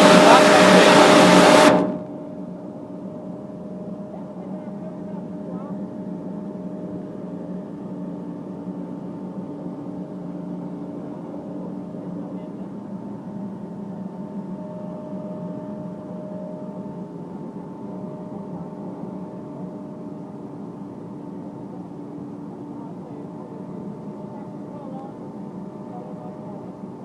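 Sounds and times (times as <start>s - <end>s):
machinery hum: 0.0s - 27.0s.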